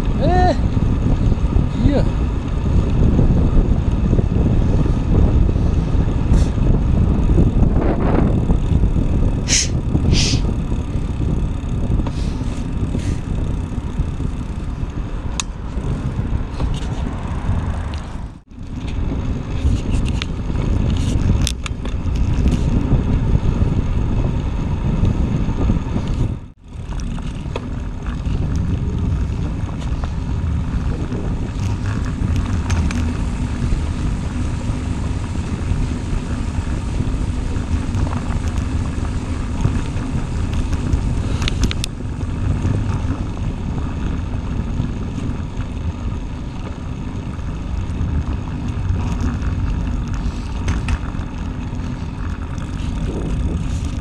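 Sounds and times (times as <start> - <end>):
bicycle rolling over brick paving: 0.0 - 54.0
wind rushing over microphone: 0.0 - 54.0.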